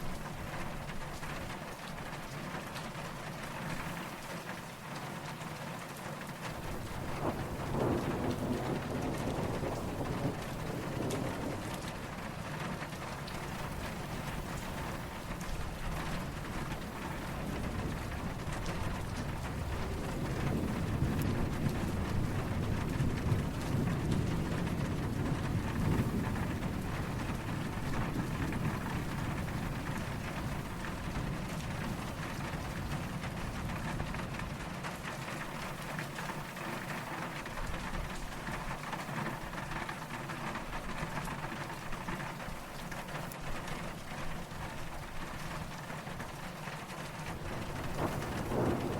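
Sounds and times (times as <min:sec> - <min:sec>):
steady rain falling: 0:00.0 - 0:48.9
distant thunder rumble: 0:06.5 - 0:43.3, 0:43.9 - 0:48.9.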